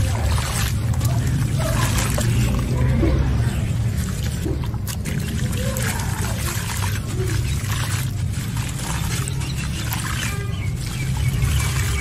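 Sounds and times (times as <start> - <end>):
crumbs trickling into a basin: 0.0 - 12.0.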